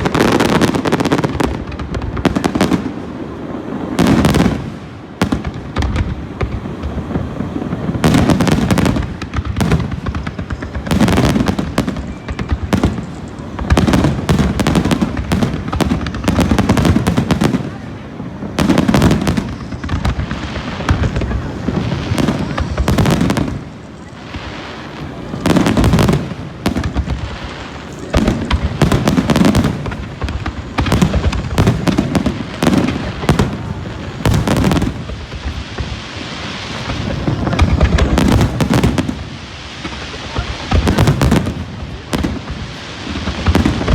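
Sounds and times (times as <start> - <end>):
fireworks booming: 0.0 - 43.9
fireworks crackling: 0.0 - 43.9.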